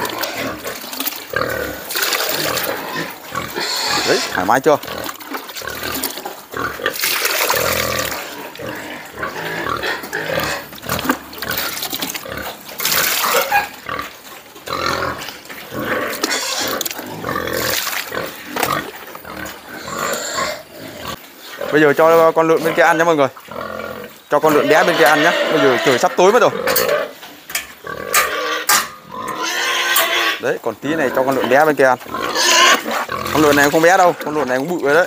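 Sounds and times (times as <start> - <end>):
pigs eating noisily: 0.0 - 35.0.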